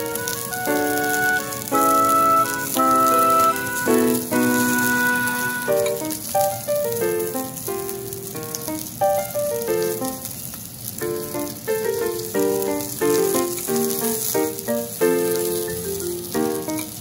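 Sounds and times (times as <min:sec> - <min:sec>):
background music melody: 0:00.0 - 0:10.3, 0:11.0 - 0:17.0
steak sizzling on griddle: 0:00.0 - 0:17.0.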